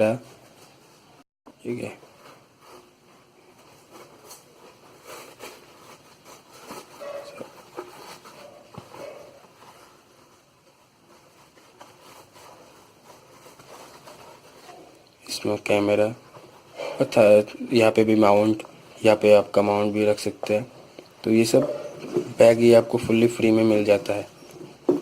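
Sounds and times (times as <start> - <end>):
hands rustling a carry bag: 0.0 - 25.0.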